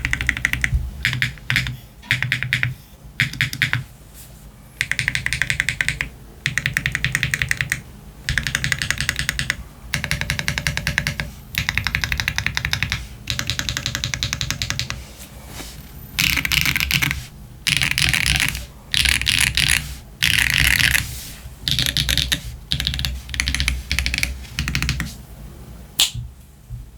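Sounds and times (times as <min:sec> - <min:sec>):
mechanical keyboard typing: 0:00.0 - 0:03.8, 0:04.8 - 0:15.0, 0:16.2 - 0:21.0, 0:21.7 - 0:25.1.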